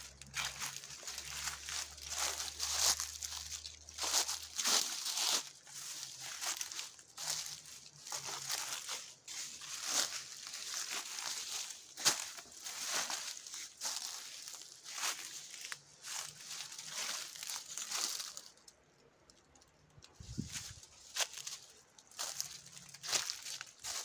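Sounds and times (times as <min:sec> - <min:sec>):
footsteps crunching dry leaves: 0:00.0 - 0:18.7, 0:20.0 - 0:24.0.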